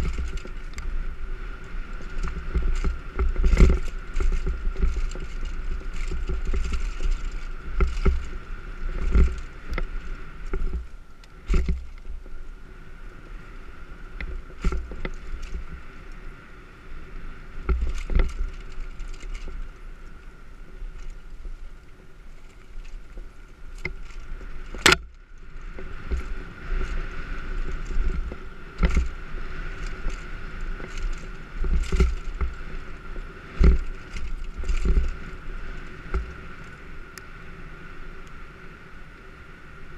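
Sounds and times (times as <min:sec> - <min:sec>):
bike rattling and knocking: 0:00.0 - 0:38.6
tyres running over dirt: 0:00.0 - 0:39.9
wind rumbling on microphone: 0:00.0 - 0:39.9.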